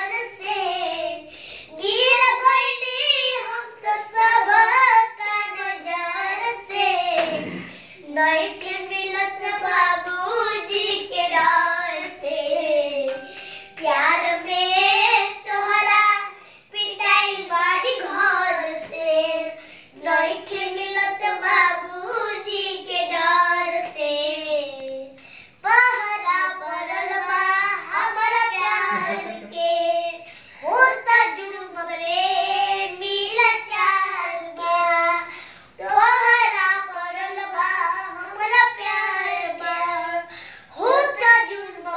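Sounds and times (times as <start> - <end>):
boys singing unaccompanied: 0.0 - 41.9.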